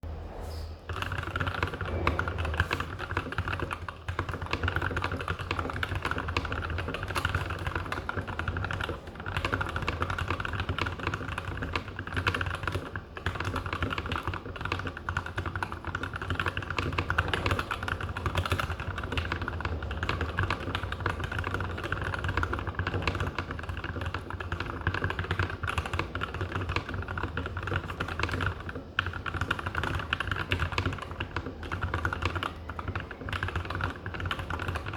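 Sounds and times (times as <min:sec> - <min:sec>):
fast mechanical keyboard typing: 0:00.9 - 0:34.9.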